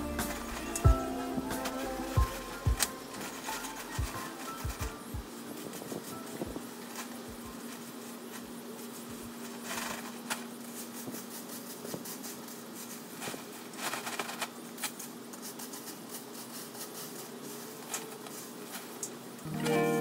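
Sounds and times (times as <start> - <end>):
broom sweeping dry leaves: 0.0 - 20.0
plastic bag rustling: 0.0 - 20.0.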